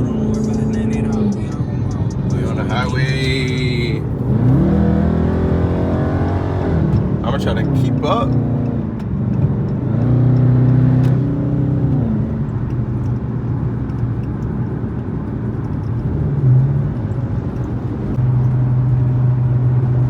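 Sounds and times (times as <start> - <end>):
car engine drone: 0.0 - 20.0
road noise inside car: 0.0 - 20.0.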